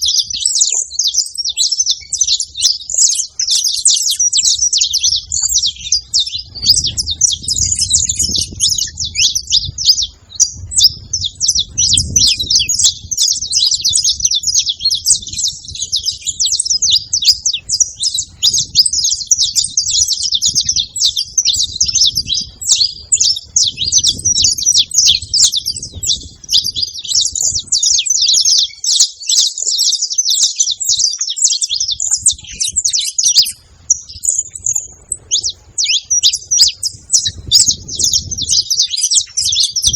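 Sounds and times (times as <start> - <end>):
finch chirping and trilling: 0.0 - 39.9.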